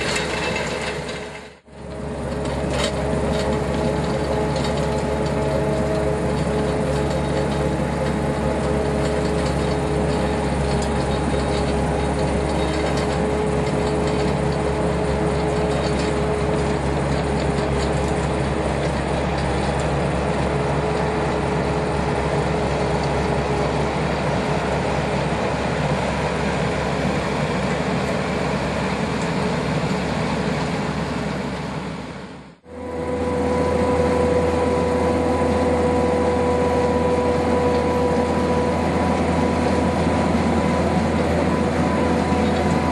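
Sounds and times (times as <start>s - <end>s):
loader engine under load: 0.0s - 42.9s.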